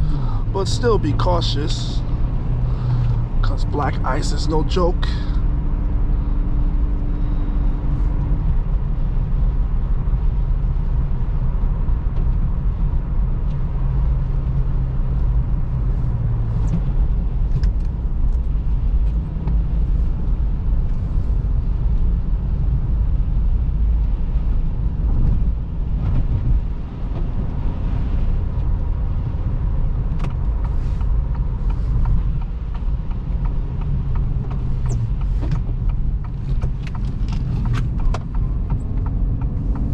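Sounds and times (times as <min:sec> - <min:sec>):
car engine at road speed: 0:00.0 - 0:39.9.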